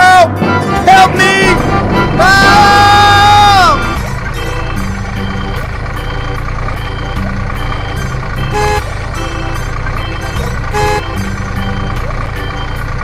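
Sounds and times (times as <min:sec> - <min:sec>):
horn toots: 0:00.0 - 0:07.1, 0:08.4 - 0:11.9
vehicle engine rumble: 0:00.4 - 0:13.0.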